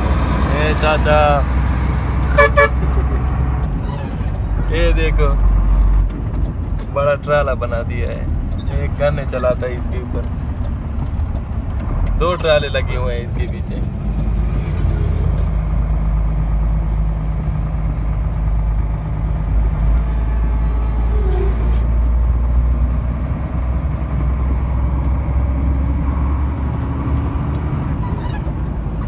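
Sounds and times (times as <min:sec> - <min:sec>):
road noise: 0:00.0 - 0:29.0
truck engine drone in cab: 0:00.0 - 0:29.0.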